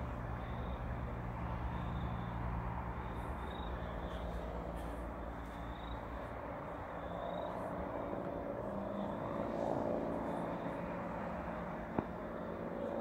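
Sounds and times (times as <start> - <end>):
helicopter flying past: 0.0 - 13.0.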